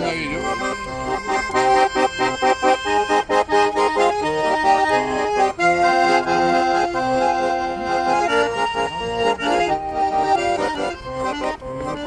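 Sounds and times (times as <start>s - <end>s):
button accordion playing: 0.0s - 12.0s.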